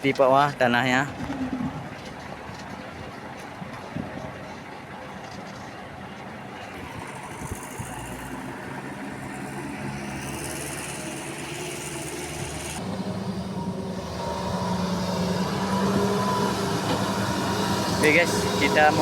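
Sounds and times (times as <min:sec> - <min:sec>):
diesel construction machinery running: 0:01.0 - 0:19.0.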